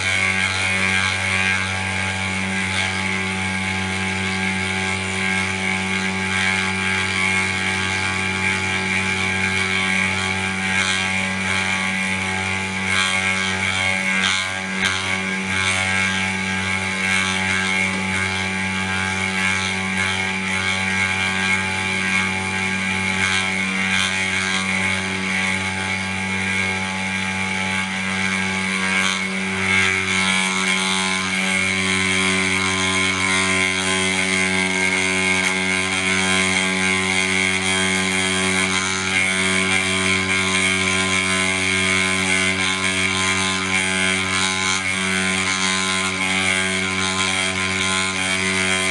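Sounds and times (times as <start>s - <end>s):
spindle motor humming and whining: 0.0s - 48.9s.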